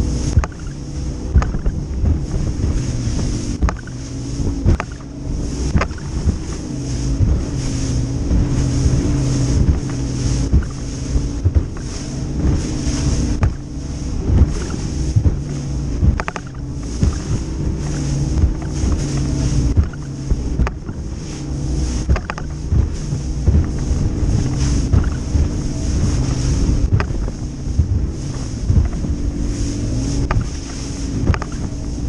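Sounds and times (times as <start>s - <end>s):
hull slapping through waves: 0.0s - 32.0s
outboard engine drone: 0.0s - 32.0s
wind buffeting microphone: 0.0s - 32.0s.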